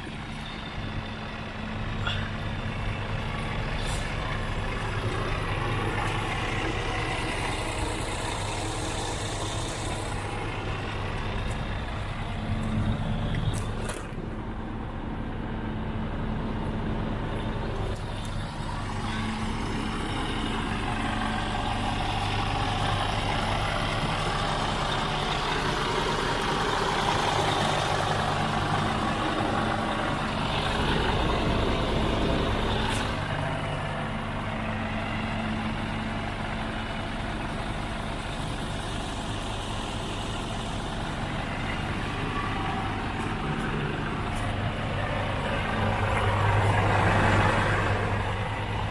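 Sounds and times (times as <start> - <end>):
diesel truck engine running: 0.0 - 48.9.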